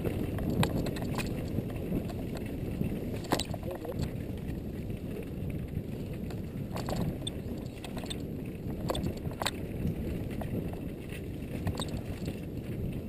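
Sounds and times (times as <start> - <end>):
bike clacking and rattling: 0.0 - 13.0
wind on microphone: 0.0 - 13.0.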